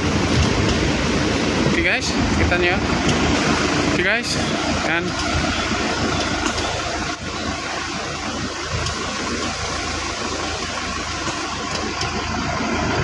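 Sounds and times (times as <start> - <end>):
air conditioning fan hum: 0.0 - 13.0
van engine running: 0.0 - 13.0.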